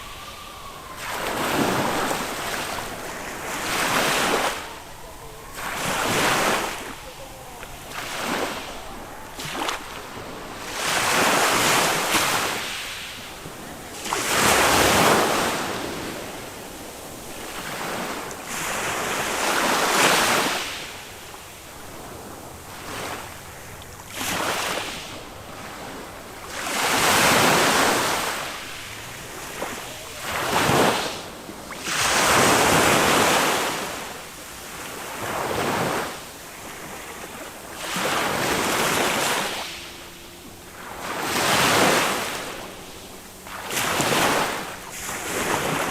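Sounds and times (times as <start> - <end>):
small waves breaking on beach: 0.0 - 45.9.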